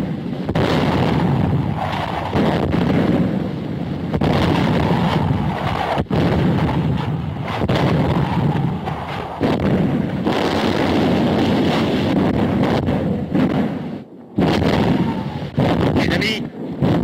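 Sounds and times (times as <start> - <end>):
gunfire and shell explosions: 0.0 - 17.0
sharp artillery blasts: 0.0 - 17.0.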